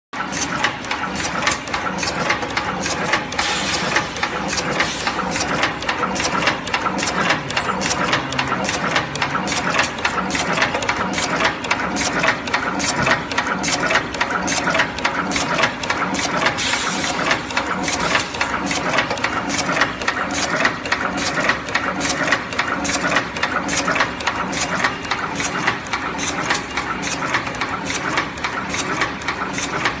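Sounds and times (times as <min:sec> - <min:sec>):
sharp machine clicks: 0:00.2 - 0:30.0.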